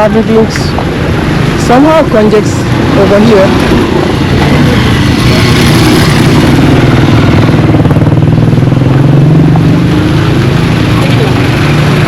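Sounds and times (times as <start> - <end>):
street traffic: 0.0 - 12.0
vehicle engine running close by: 0.0 - 12.0.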